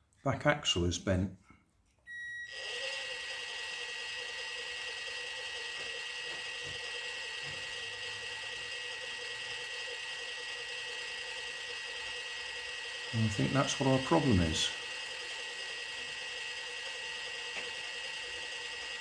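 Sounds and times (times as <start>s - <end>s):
toy car electric motor whine: 2.1s - 19.0s.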